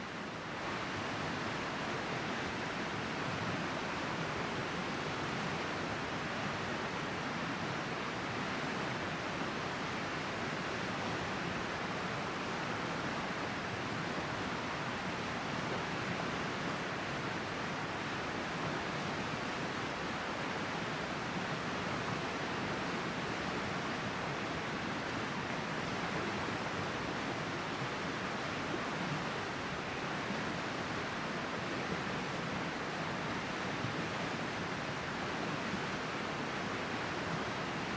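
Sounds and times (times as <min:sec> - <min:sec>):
river flowing: 0:00.0 - 0:37.9.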